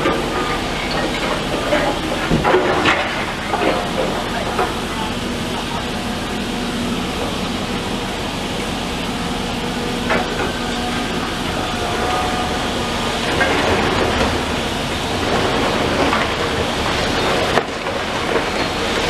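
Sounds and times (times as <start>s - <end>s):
heavy demolition machinery: 0.0s - 19.0s.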